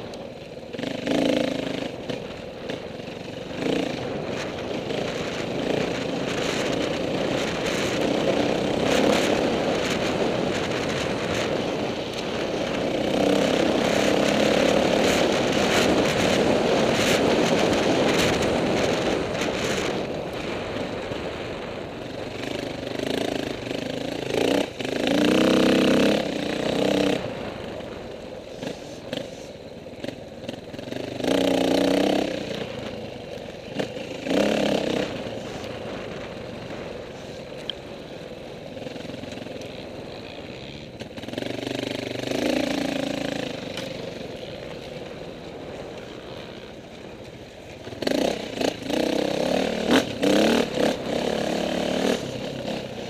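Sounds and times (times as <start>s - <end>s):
dirt bike engine revving: 0.7s - 21.6s, 22.4s - 37.4s, 38.8s - 53.0s.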